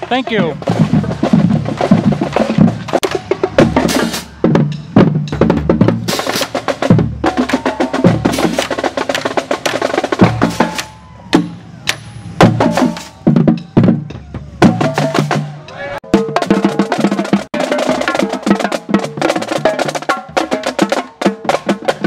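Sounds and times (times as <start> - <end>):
marching drumline playing: 0.0 - 22.0.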